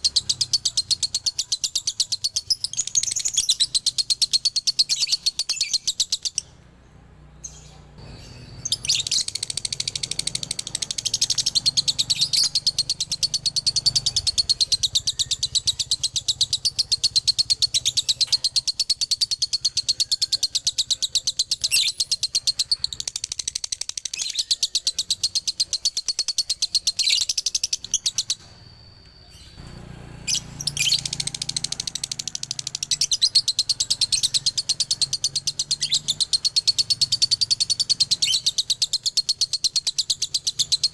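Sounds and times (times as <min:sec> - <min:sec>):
lovebird chattering trill: 0:00.0 - 0:06.6, 0:07.4 - 0:29.6, 0:30.2 - 0:40.9.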